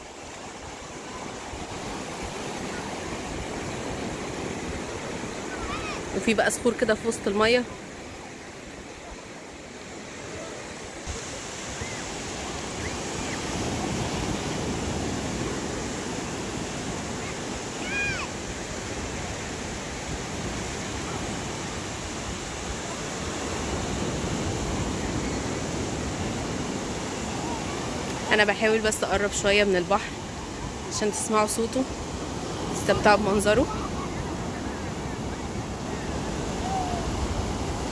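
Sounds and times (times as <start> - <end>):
ocean surf breaking on beach: 0.0 - 37.9.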